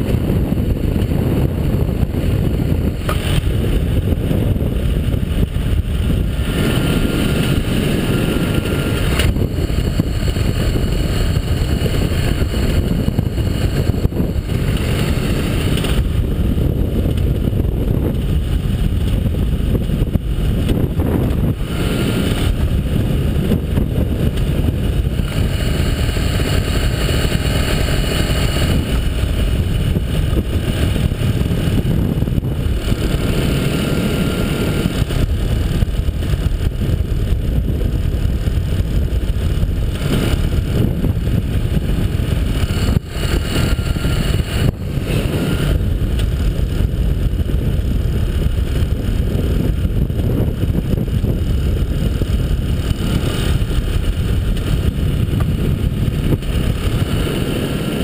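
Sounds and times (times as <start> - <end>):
paramotor engine running: 0.0 - 58.0
wind rushing over microphone: 0.0 - 58.0.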